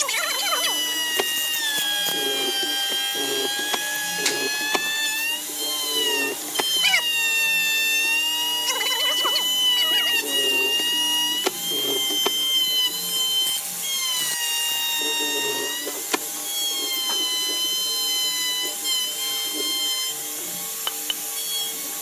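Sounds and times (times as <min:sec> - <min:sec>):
mortising machine boring into wood: 0:00.0 - 0:22.0.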